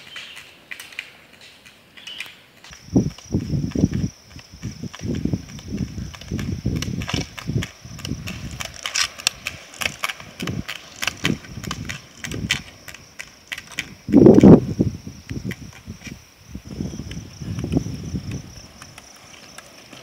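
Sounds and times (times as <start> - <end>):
ski pole tips clicking on asphalt: 0.0 - 14.6, 17.0 - 20.0
high insect drone: 2.0 - 20.0
wind rumble on microphone: 2.7 - 19.1.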